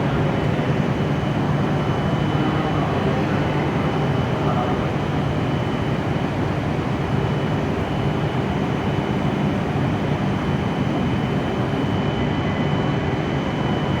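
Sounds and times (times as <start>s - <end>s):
train equipment hum and whir: 0.0s - 14.0s.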